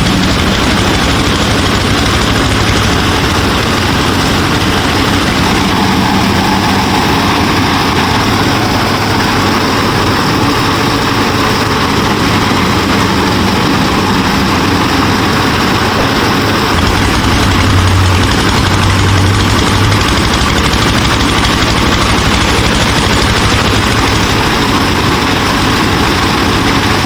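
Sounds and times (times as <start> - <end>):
motor mechanical hum: 0.0 - 27.0.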